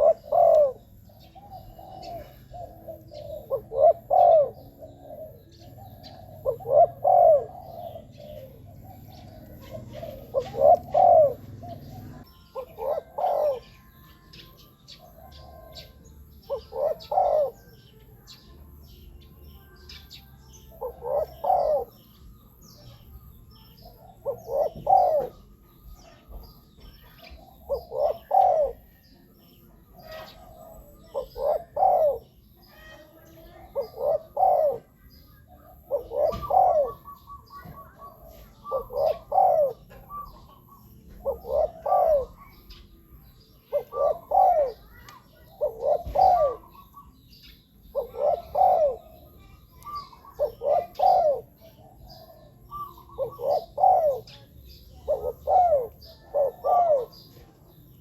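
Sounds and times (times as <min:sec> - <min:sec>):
dove cooing: 0:00.0 - 0:18.6, 0:19.9 - 0:58.0.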